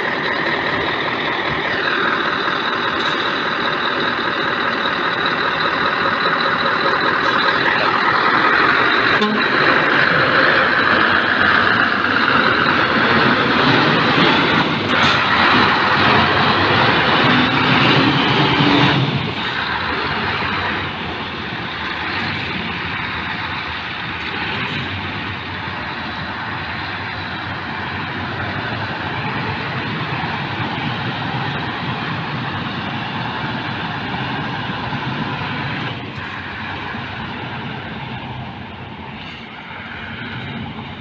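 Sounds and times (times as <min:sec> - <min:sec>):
diesel truck engine pulling away: 0:00.0 - 0:41.0.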